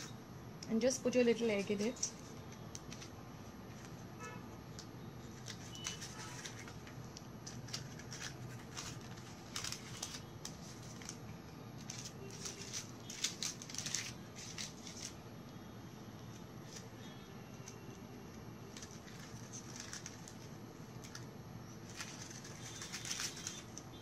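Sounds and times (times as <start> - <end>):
paper liners crinkling: 0.8 - 15.4, 16.2 - 24.0.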